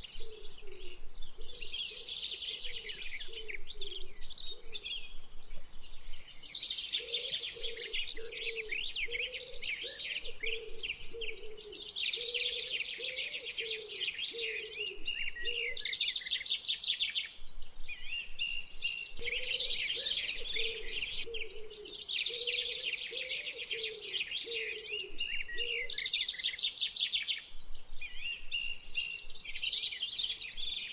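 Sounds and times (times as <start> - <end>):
songbirds chirping: 0.0 - 30.9.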